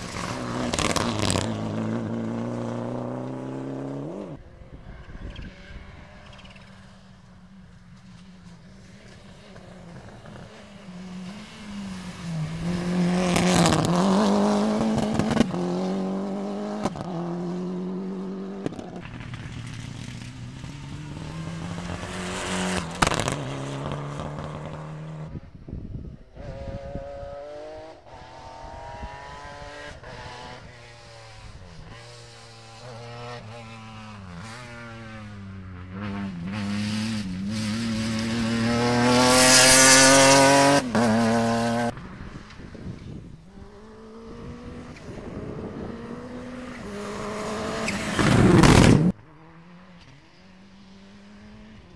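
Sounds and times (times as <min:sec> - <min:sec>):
rally car engine passing: 0:00.0 - 0:25.7, 0:26.3 - 0:51.9.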